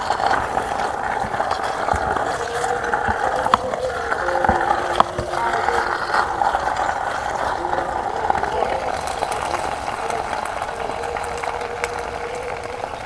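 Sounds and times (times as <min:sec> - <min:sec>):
sauce bubbling and sizzling: 0:00.0 - 0:13.0
spatula stirring pasta: 0:00.0 - 0:13.0.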